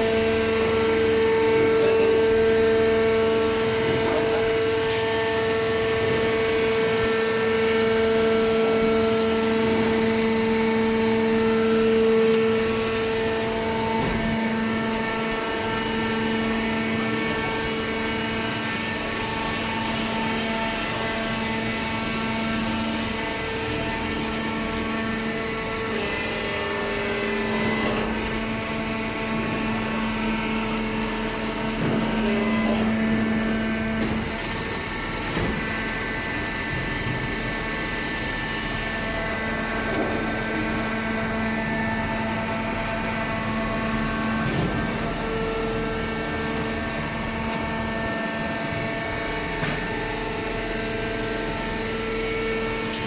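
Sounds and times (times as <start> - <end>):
baler machinery humming and whining: 0.0 - 53.0.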